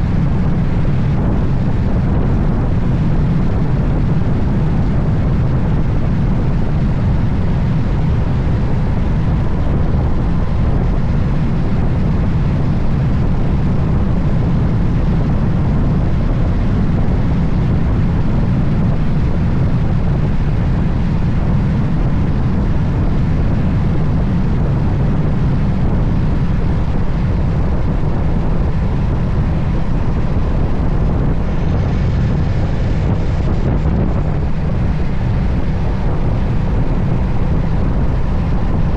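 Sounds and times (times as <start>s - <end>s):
road noise: 0.0s - 38.9s
wind rush on microphone: 0.0s - 38.9s.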